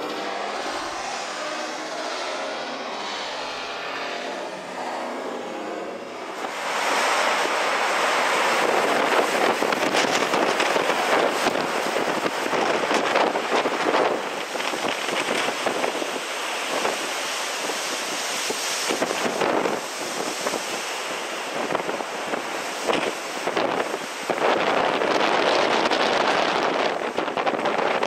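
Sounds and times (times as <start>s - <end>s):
storm wind on microphone: 0.0s - 28.0s.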